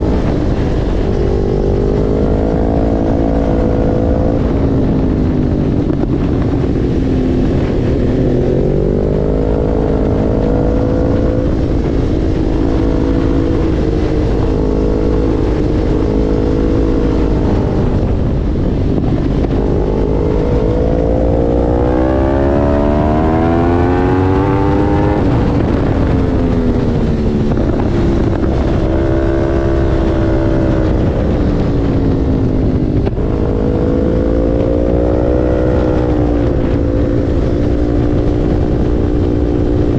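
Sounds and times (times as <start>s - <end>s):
low rushing noise: 0.0s - 39.9s
motorcycle engine accelerating: 0.0s - 39.9s.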